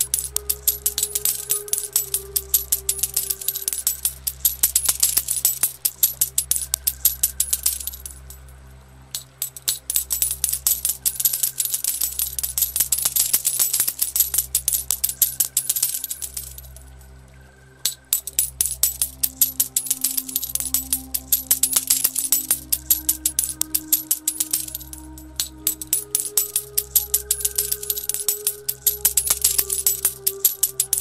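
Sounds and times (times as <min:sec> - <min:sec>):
coins clinking and jingling: 0:00.0 - 0:08.4, 0:09.2 - 0:16.8, 0:17.9 - 0:31.0
soft music drone: 0:00.0 - 0:31.0.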